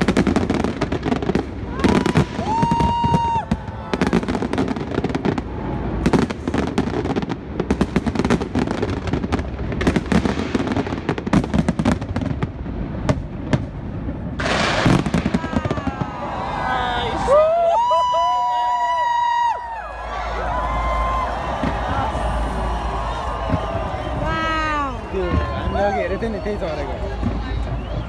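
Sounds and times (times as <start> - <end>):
fireworks bangs and crackles: 0.0 - 19.7, 20.4 - 28.0.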